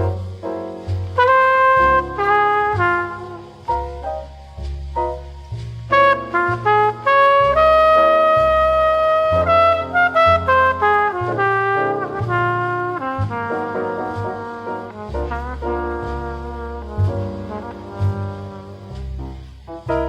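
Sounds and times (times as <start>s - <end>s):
jazz trumpet ballad solo: 0.0s - 20.0s
low bass line: 0.0s - 20.0s.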